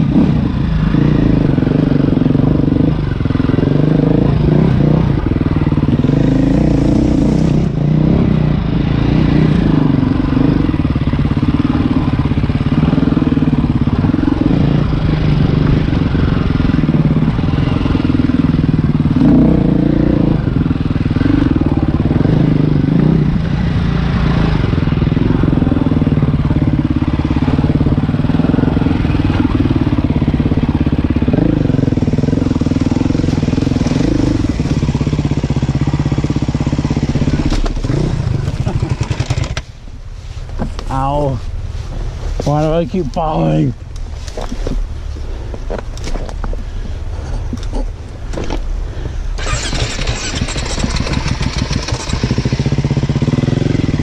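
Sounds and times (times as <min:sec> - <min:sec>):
motorcycle engine revving: 0:00.0 - 0:39.8, 0:47.2 - 0:54.0.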